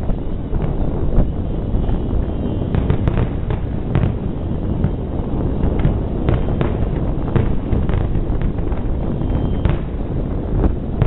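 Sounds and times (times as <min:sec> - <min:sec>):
fireworks booming and cracking: 0:00.0 - 0:11.0.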